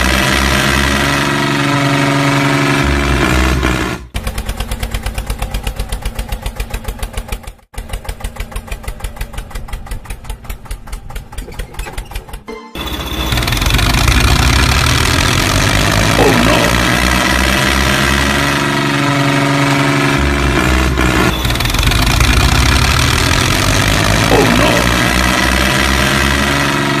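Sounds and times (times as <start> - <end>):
engine running with low throb: 0.0 - 27.0.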